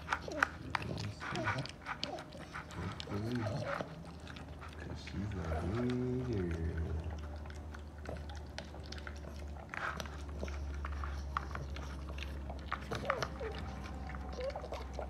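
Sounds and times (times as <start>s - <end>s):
low steady hum: 0.0s - 15.0s
puppy chewing wetly: 0.0s - 15.0s
teeth clicking on plastic bowl: 0.0s - 15.0s.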